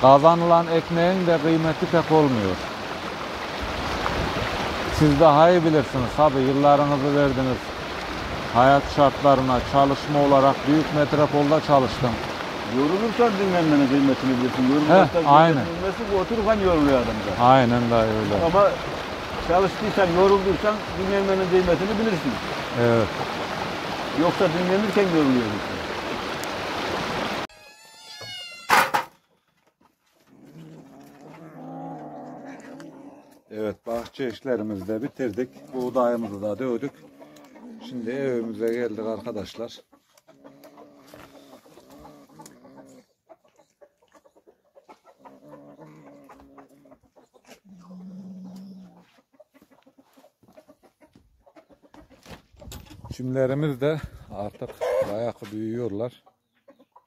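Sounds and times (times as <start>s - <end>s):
hens clucking: 4.9s - 25.7s, 28.7s - 53.7s, 54.3s - 57.0s.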